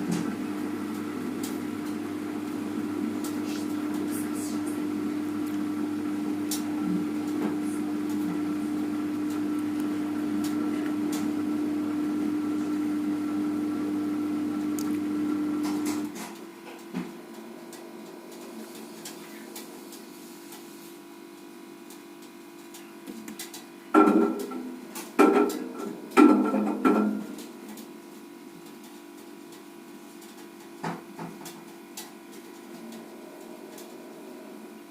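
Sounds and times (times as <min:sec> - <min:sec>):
washing machine humming: 0:00.0 - 0:34.9.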